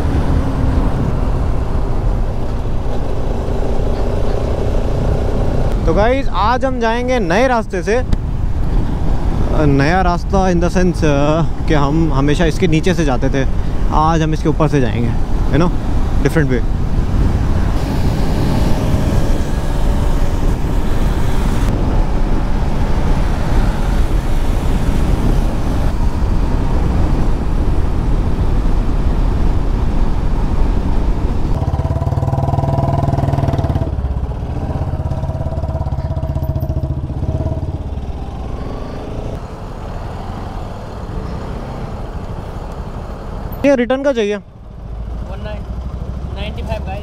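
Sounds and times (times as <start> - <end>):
motorcycle engine rumble: 0.0 - 9.7, 15.0 - 43.7
wind noise: 0.0 - 39.4.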